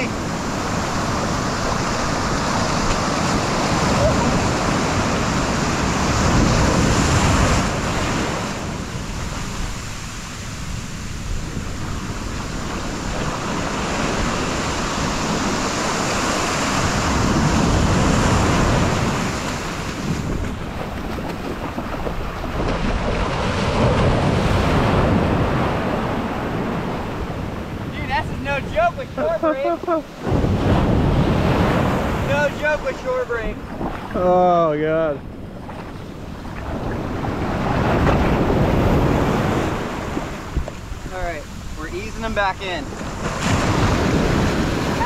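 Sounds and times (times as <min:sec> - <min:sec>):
waves breaking on sand beach: 0:00.0 - 0:45.0.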